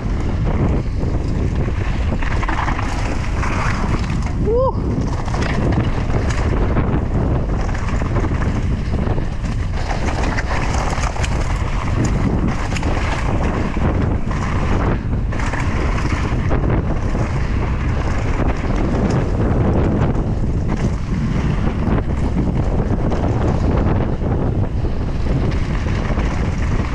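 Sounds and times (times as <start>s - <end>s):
bike clicks and rattles: 0.0s - 26.9s
bike tyres on dirt trail: 0.0s - 26.9s
wind on microphone: 0.0s - 26.9s.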